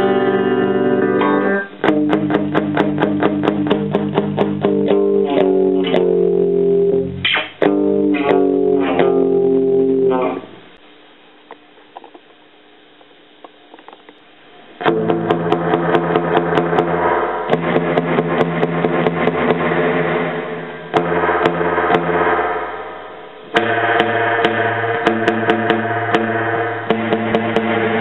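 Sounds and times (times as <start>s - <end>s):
electric guitar strummed chords: 0.0s - 10.8s, 14.8s - 28.0s
faint amplifier hiss: 0.0s - 28.0s.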